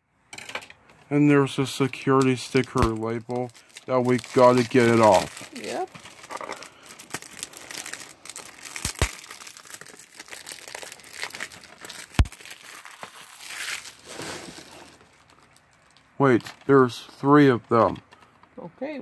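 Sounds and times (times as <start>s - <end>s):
plastic wrap crinkling: 2.2s - 18.6s.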